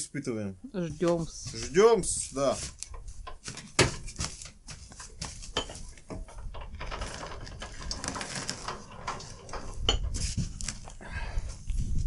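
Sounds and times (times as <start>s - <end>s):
handling clicks and rustling: 1.0s - 11.0s.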